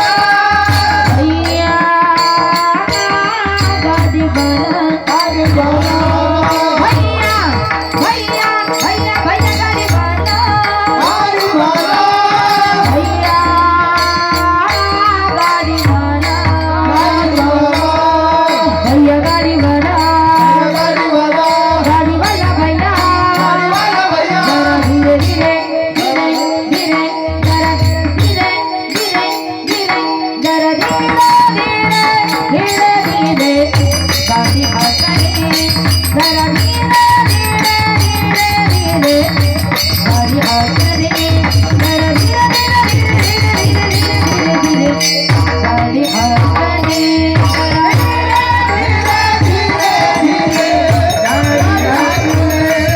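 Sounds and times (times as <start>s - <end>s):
woman singing: 0.0s - 52.9s.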